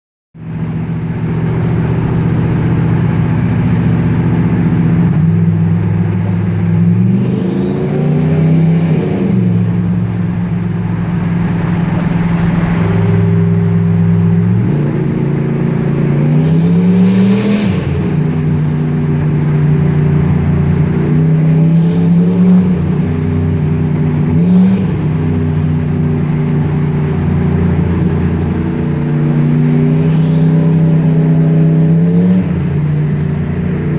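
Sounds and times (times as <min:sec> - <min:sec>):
car engine exhaust drone: 0:00.4 - 0:33.9.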